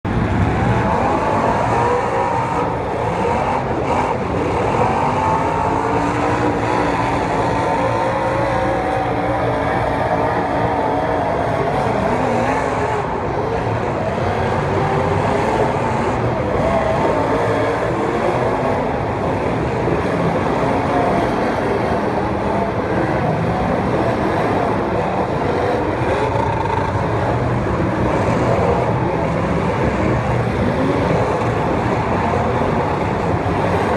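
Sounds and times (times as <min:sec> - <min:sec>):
racing car engines: 0:00.0 - 0:33.9.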